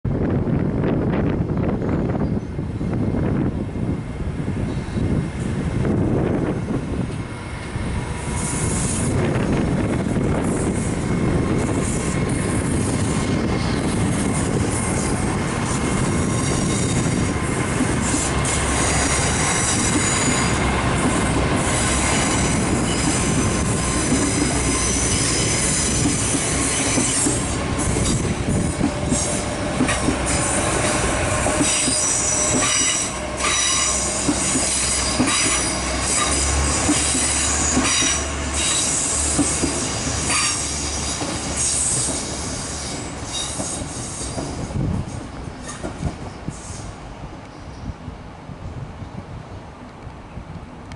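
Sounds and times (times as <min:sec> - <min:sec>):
train wheels squealing on rails: 0:01.4 - 0:03.4, 0:04.6 - 0:48.0.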